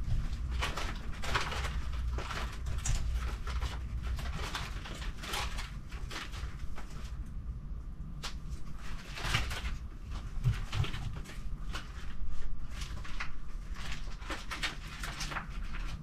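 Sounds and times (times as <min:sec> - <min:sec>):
plastic bags rustling: 0:00.0 - 0:07.5, 0:08.1 - 0:16.0
low steady hum: 0:00.0 - 0:16.0.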